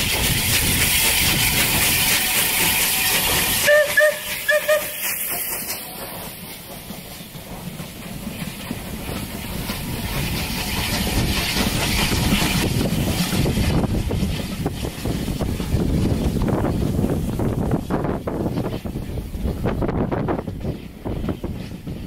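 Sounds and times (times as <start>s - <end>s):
steam locomotive hissing: 0.0s - 22.0s
train carriages rolling: 0.0s - 22.0s.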